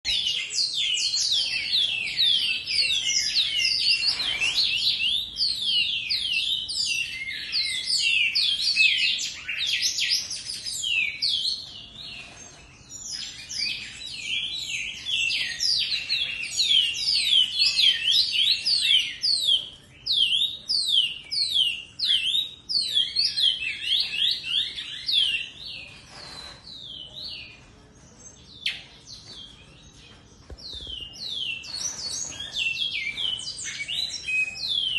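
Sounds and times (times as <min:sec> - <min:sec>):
finch singing whistled notes: 0:00.0 - 0:34.9.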